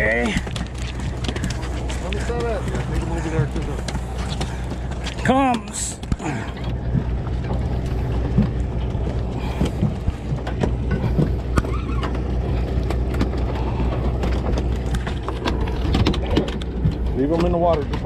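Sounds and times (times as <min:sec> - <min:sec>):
boat engine humming: 0:00.0 - 0:18.0
knocks and clicks: 0:00.0 - 0:18.0.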